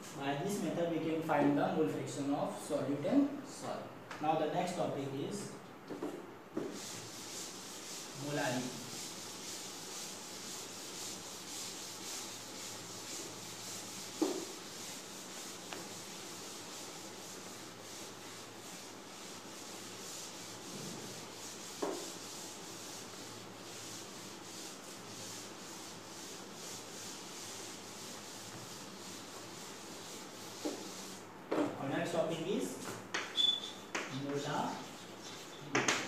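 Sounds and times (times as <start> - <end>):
duster scrubbing a blackboard: 6.0 - 33.1, 33.8 - 36.0.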